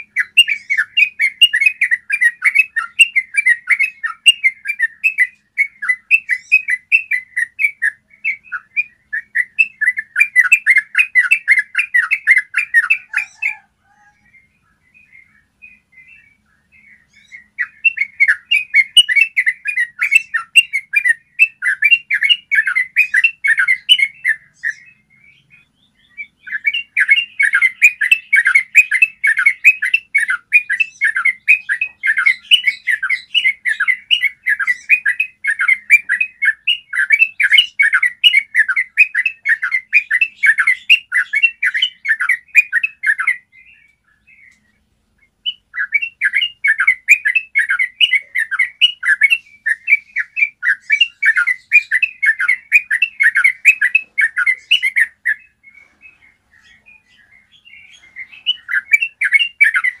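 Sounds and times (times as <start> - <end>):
bird singing rolling song: 0.0 - 60.0.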